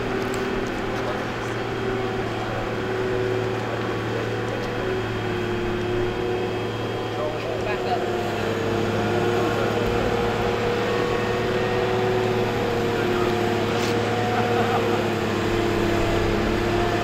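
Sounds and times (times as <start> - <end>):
lift engine running: 0.0 - 17.0.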